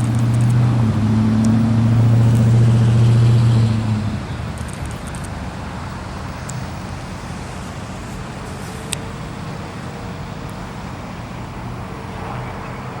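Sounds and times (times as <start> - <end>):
low rumble of engines: 0.0 - 13.0.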